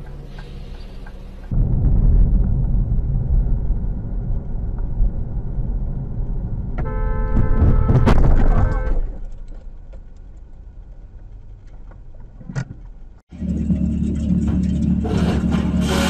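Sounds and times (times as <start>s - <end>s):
heavy vehicle rumbling: 0.0s - 16.0s.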